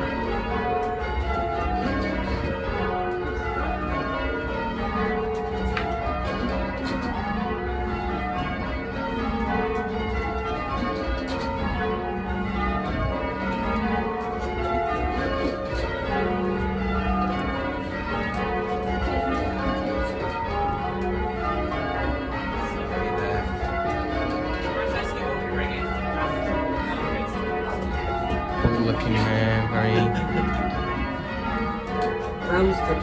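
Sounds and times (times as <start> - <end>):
church bells change ringing: 0.0 - 33.0.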